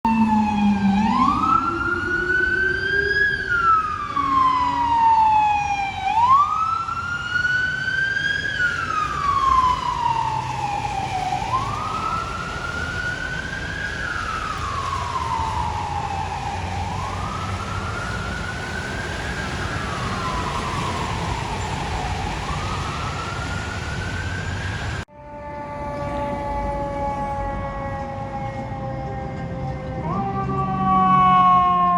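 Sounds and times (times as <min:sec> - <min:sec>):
fire truck siren wailing: 0:00.0 - 0:31.9
traffic noise: 0:00.1 - 0:31.9.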